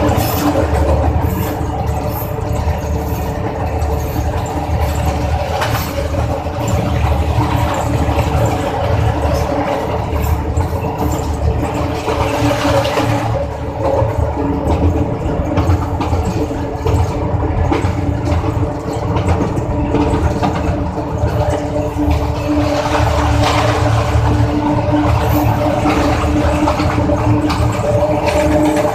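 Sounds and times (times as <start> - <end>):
diesel locomotive engine hum: 0.0 - 28.9
wheels on rails: 0.0 - 28.9.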